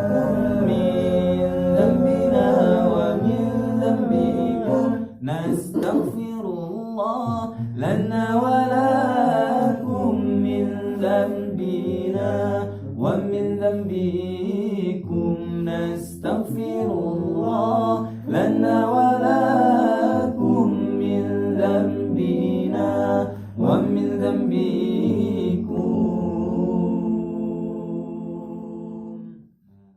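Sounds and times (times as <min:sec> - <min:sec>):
low held bass voice: 0:00.0 - 0:28.0
vocal group singing a cappella: 0:00.0 - 0:29.9.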